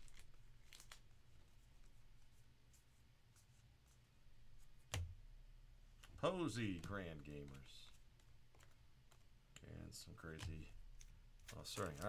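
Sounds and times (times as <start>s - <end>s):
trading cards rustling: 0.0s - 4.0s, 5.9s - 12.0s.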